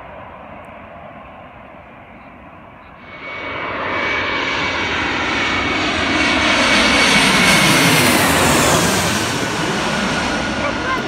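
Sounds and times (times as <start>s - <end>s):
jet airliner passing overhead: 0.0s - 11.0s
jet engine whine: 0.0s - 11.0s.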